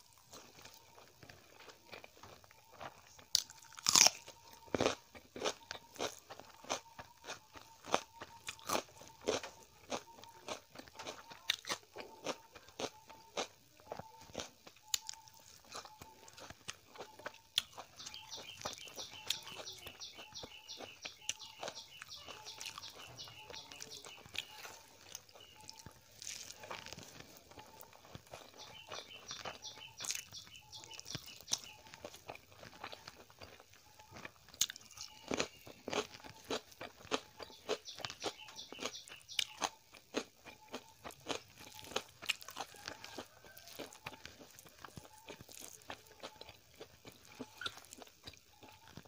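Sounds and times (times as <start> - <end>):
crunching and chewing onion: 0.0 - 49.0.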